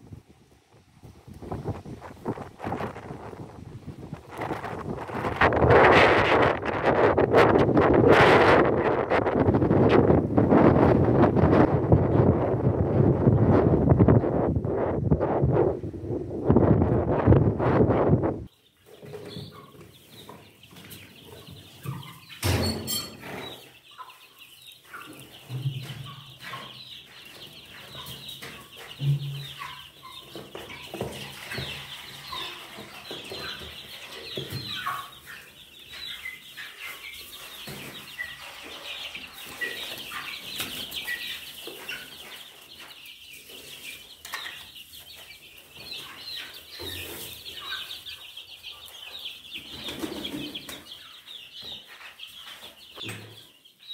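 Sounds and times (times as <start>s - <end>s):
chicks peeping: 0.0s - 53.9s
hens clucking: 1.3s - 22.5s, 23.2s - 53.7s.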